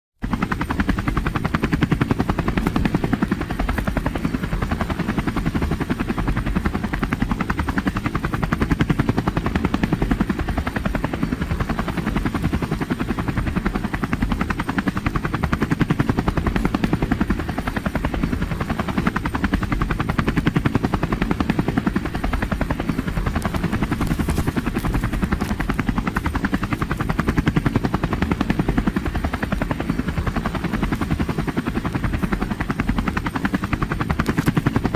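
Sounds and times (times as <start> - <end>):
helicopter rotor chopping: 0.2 - 34.9.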